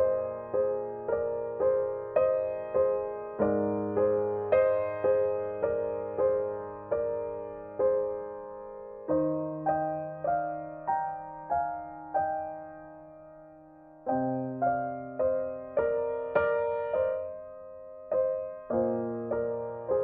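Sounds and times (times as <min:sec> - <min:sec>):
gentle solo piano music: 0:00.0 - 0:20.0.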